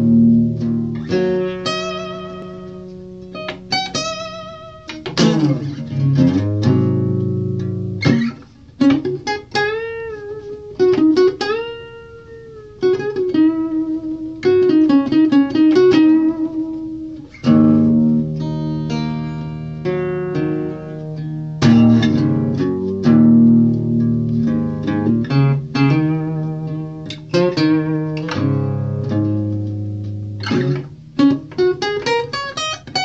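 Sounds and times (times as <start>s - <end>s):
acoustic guitar: 0.0s - 33.0s.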